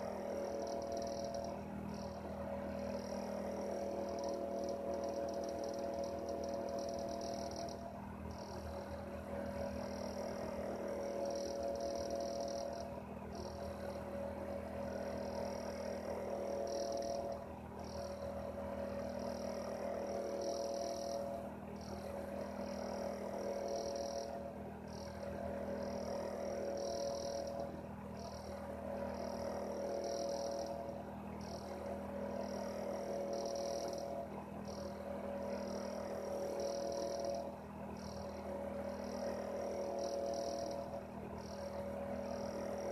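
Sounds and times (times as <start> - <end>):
room heater hum: 0.0 - 42.9.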